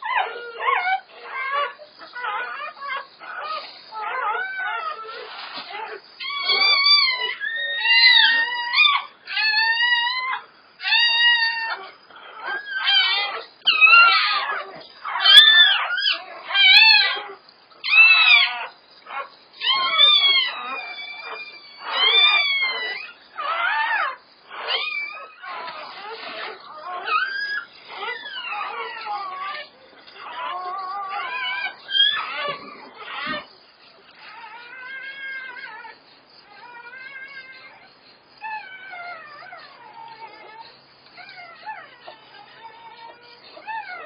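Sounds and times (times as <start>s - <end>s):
puppies crying: 0.0s - 44.0s.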